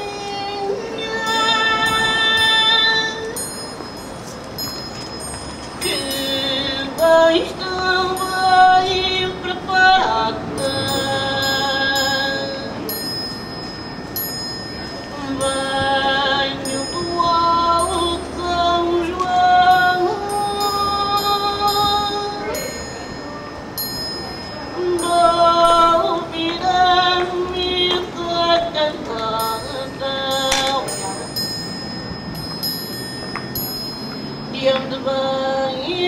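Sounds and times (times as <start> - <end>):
slow sliding melody: 0.0 - 35.9
high chiming notes: 0.6 - 28.4, 29.3 - 35.8.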